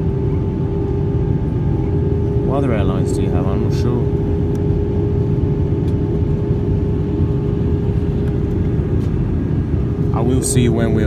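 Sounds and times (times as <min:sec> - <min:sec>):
aircraft cabin engine drone: 0:00.0 - 0:11.0
steady hum tone: 0:00.0 - 0:11.0.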